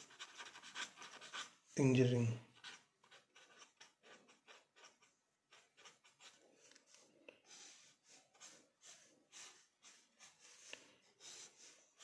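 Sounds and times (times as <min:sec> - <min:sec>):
pen writing on paper: 0:00.0 - 0:01.6, 0:02.6 - 0:06.4, 0:07.5 - 0:12.0.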